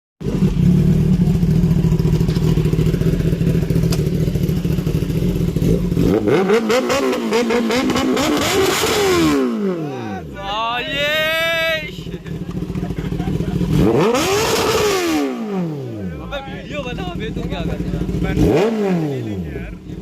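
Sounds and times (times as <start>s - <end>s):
motorcycle engine revving: 0.2s - 10.5s, 12.0s - 20.0s.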